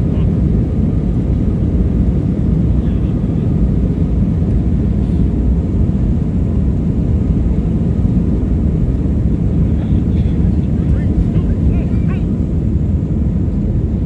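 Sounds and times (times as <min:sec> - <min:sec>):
airliner engines taking off: 0:00.0 - 0:14.0.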